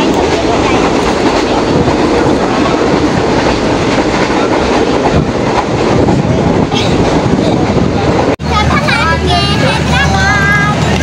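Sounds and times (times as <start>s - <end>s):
train running noise inside carriage: 0.0s - 11.0s.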